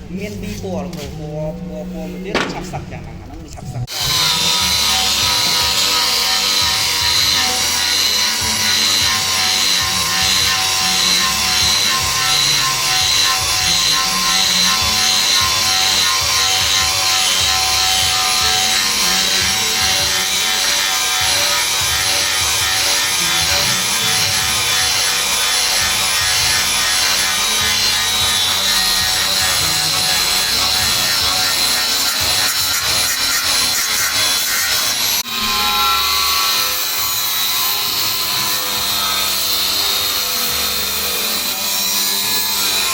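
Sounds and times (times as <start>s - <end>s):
angle grinder grinding: 2.2s - 42.9s.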